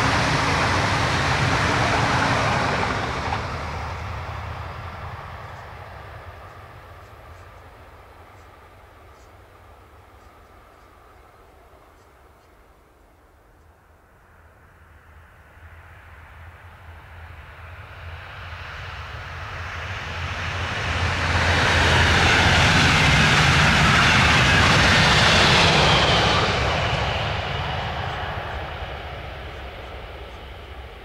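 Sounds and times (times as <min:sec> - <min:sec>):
train passing: 0:00.0 - 0:31.0.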